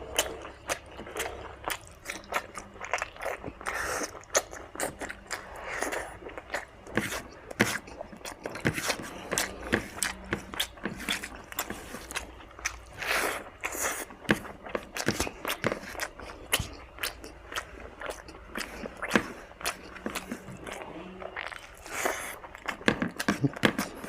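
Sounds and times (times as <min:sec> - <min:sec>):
chewing and lip-smacking: 0:00.0 - 0:24.0.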